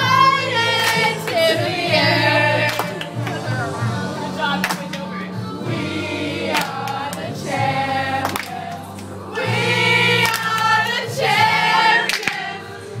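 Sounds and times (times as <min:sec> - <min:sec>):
group of voices singing: 0:00.0 - 0:13.0
steady musical backing: 0:00.0 - 0:13.0.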